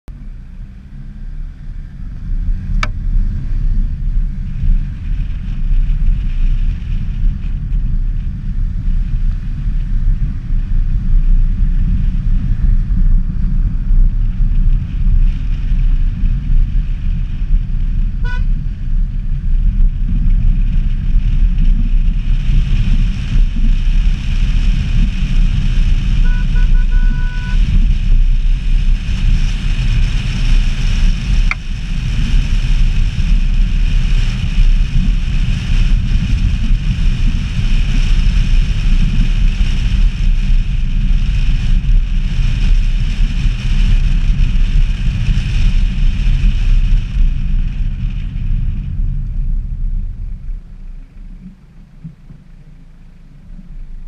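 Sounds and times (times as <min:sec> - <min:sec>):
car road noise: 0:00.0 - 0:54.0
wind buffeting camera: 0:00.1 - 0:54.0.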